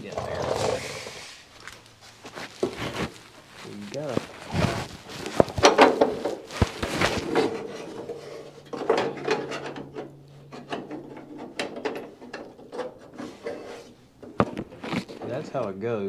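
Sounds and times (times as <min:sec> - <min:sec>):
metal scraping and knocking: 0:00.0 - 0:15.5.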